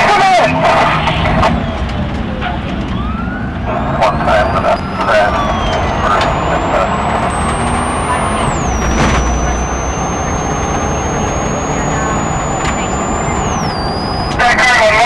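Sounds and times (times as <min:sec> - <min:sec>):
faint high whine: 0:02.9 - 0:15.0.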